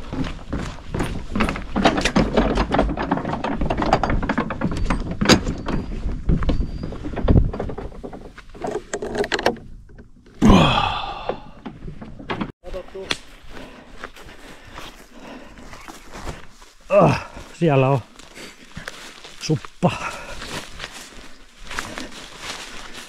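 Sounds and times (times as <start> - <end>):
footsteps on wooden planks: 0.0 - 9.1, 10.6 - 23.0.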